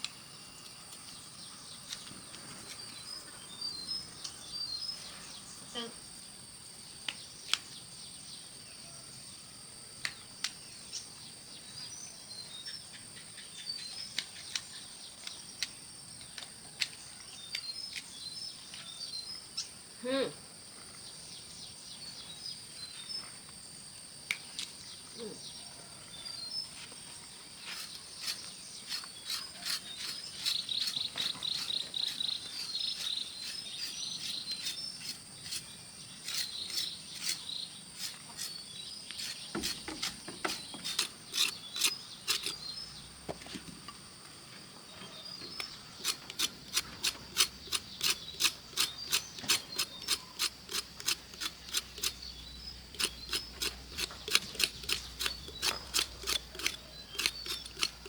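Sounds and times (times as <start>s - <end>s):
high insect drone with chirps: 0.0s - 58.0s.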